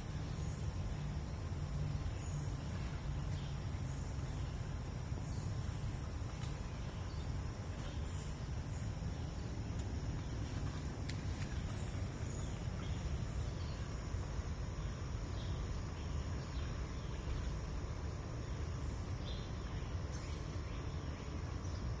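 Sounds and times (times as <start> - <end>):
forest stream flowing: 0.0 - 22.0.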